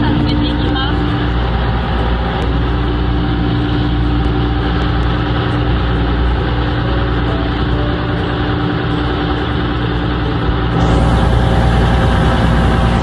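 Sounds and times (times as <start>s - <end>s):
boat engine running: 0.0s - 13.0s
wake rushing along hull: 0.0s - 13.0s.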